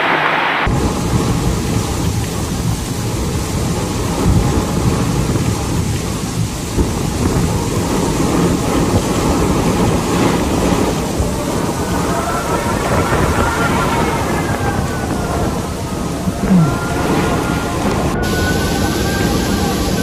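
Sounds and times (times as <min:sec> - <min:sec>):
heavy rain pouring: 0:00.0 - 0:20.0
deep low rumble: 0:00.6 - 0:20.0.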